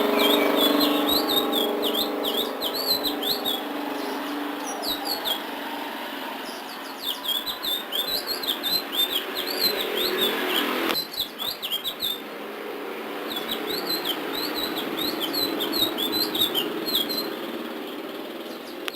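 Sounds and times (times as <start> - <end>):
songbird chirping: 0.0 - 18.9.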